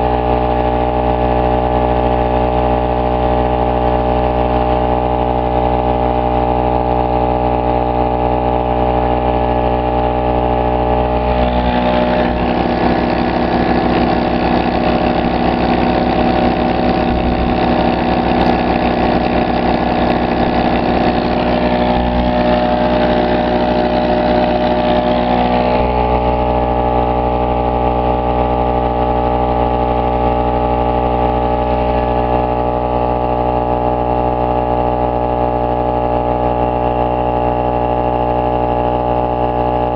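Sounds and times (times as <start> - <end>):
generator engine running: 0.0 - 39.9
harsh fast pulsing engine layer: 0.0 - 39.9.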